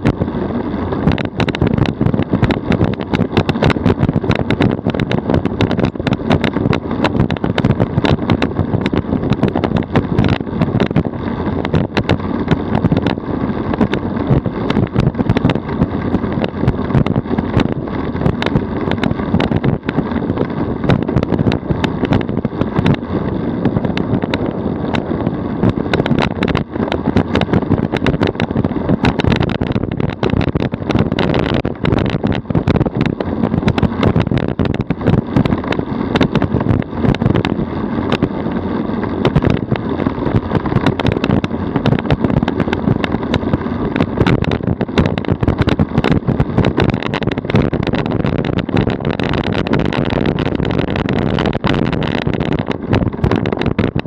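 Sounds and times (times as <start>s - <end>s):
tyre road noise rumbling: 0.0s - 54.0s
wind noise on microphone: 0.0s - 54.0s
small ticks and knocks: 1.0s - 23.0s, 23.7s - 38.3s, 39.2s - 54.0s.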